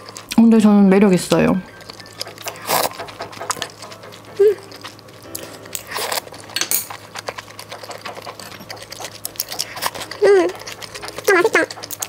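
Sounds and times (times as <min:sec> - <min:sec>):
food being chewed: 0:00.0 - 0:12.0
utensils clicking against dishes: 0:01.7 - 0:12.0.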